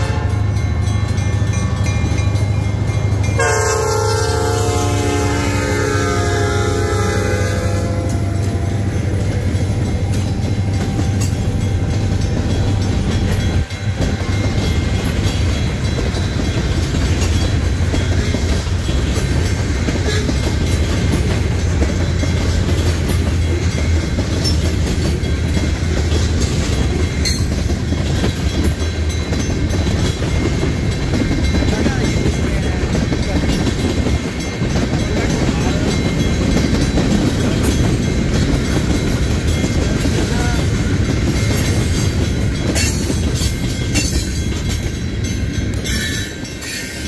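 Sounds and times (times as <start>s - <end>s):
locomotive engines droning: 0.0s - 47.0s
wheels clattering on rails: 0.0s - 47.0s.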